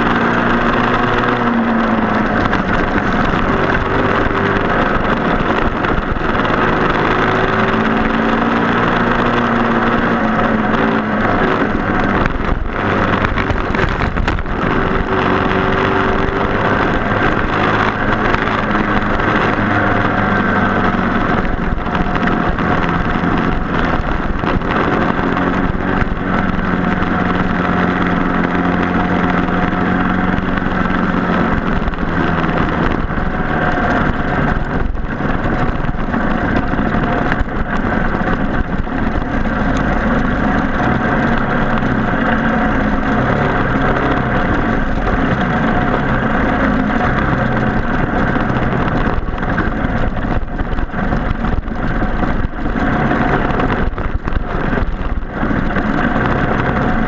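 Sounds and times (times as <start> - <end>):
kart engines racing: 0.0 - 57.0.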